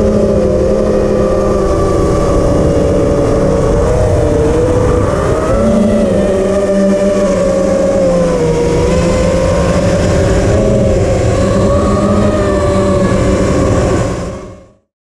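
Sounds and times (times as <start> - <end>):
drone motors whining: 0.0 - 14.8
wind rumble on microphone: 0.0 - 14.9.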